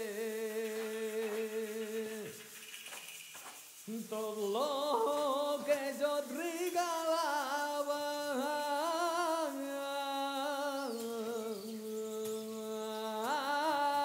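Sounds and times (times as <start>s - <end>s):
person singing folk melody: 0.0s - 2.6s, 3.8s - 14.0s.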